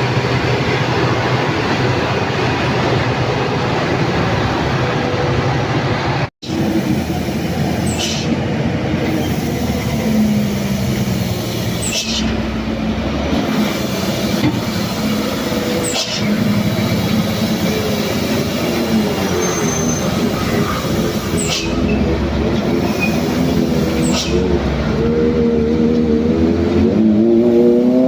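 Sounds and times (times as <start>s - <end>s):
diesel engine labouring: 0.0s - 28.0s.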